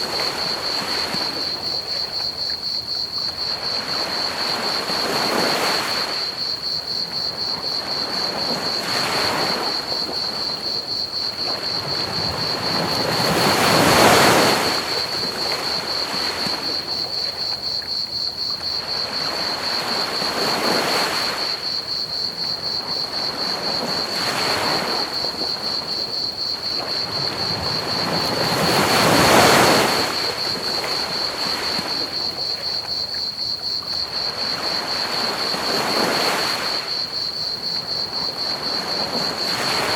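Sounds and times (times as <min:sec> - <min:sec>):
crickets chirping: 0:00.0 - 0:39.9
ocean waves breaking on beach: 0:00.0 - 0:39.9.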